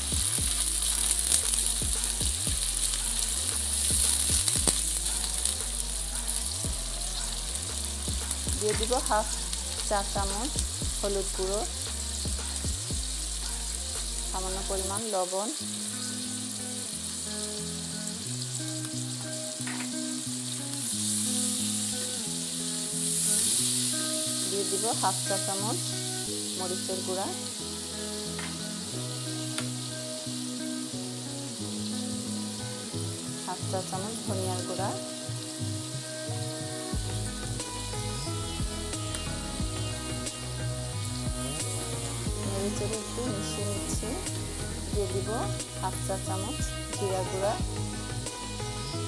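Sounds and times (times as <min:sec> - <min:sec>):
background music low notes: 0:00.0 - 0:49.0
onions sizzling in hot oil: 0:00.0 - 0:49.0.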